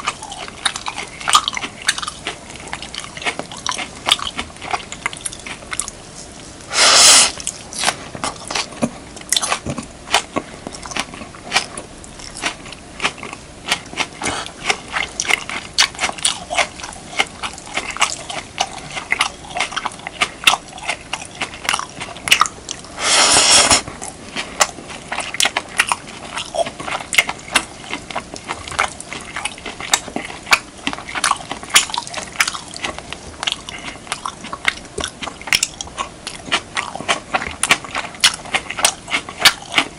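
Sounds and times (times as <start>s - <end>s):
wet chewing and mouth clicks: 0.0s - 6.0s, 6.8s - 39.9s.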